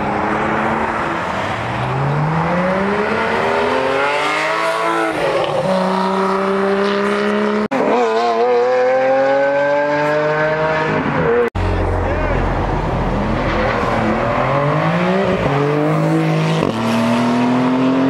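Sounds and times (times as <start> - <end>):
second sports car accelerating: 0.0 - 18.0.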